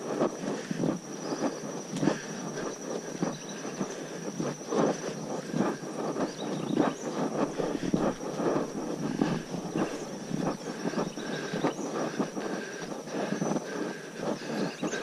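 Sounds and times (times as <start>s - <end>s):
footsteps crunching on gravel: 0.0s - 15.0s
high-pitched insect drone: 0.0s - 15.0s.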